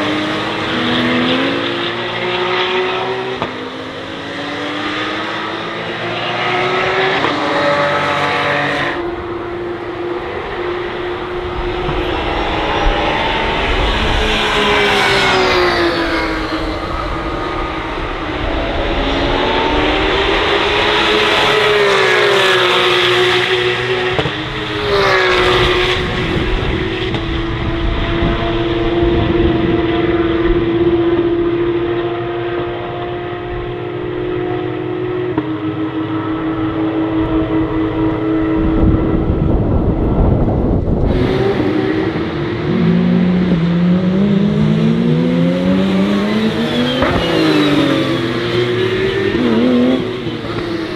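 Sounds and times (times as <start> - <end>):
race car engine through gear changes: 0.0 - 50.9.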